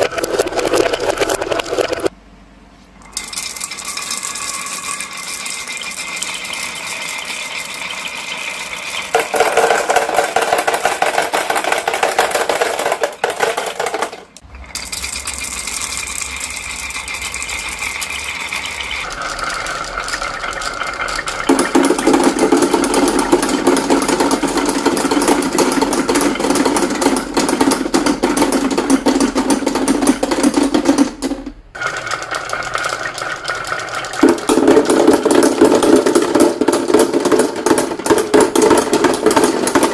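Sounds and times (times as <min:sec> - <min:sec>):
marbles rolling and clattering: 0:03.2 - 0:39.9.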